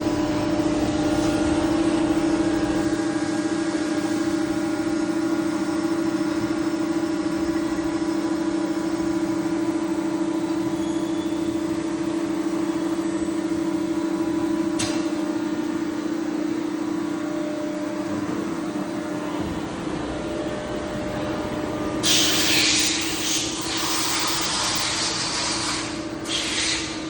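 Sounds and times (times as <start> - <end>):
machine mechanical hum: 0.0 - 27.0.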